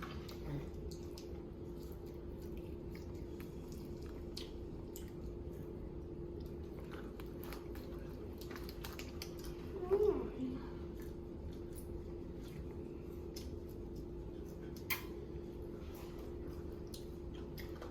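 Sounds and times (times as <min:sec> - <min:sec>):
children chewing: 0:00.0 - 0:17.9
small clicks and crackles of food: 0:00.0 - 0:17.9
steady hum: 0:00.0 - 0:17.9.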